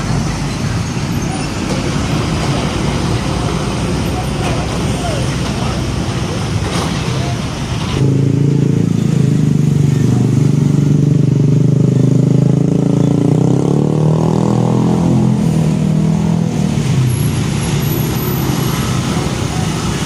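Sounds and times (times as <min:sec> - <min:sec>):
truck diesel engine accelerating: 0:00.0 - 0:20.0.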